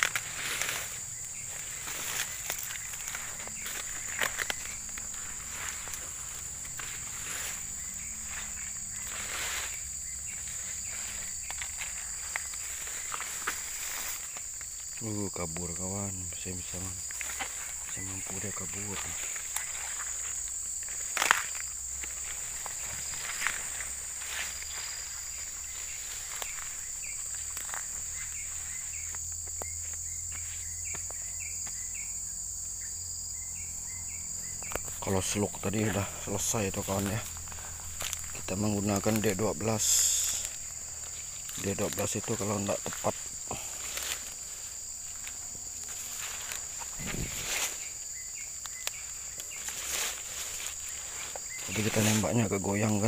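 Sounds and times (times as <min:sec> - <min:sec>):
twigs snapping: 0:00.0 - 0:15.8, 0:16.7 - 0:31.8, 0:34.6 - 0:52.2
footsteps through undergrowth: 0:00.0 - 0:53.0
high-pitched insect drone: 0:00.0 - 0:53.0
leaves brushing legs: 0:00.0 - 0:53.0.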